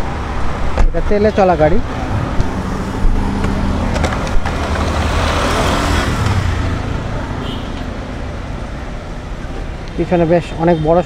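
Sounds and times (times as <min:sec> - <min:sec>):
vehicle engine humming: 0:00.0 - 0:10.1
road traffic noise: 0:00.0 - 0:11.0.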